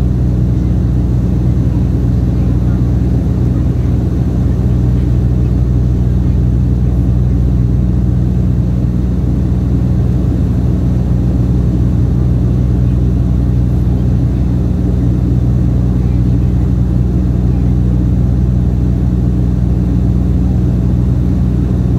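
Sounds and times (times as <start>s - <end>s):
propeller engine droning in cabin: 0.0s - 21.9s.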